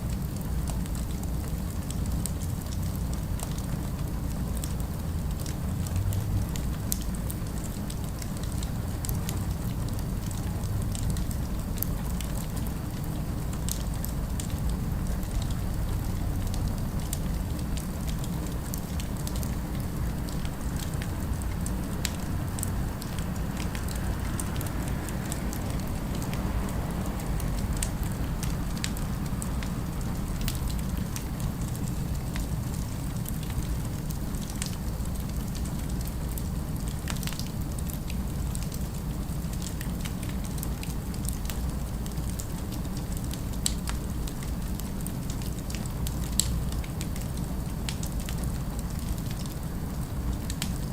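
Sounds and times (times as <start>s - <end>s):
city ambience rumble: 0.0s - 50.9s
wood fire crackling: 0.0s - 50.9s.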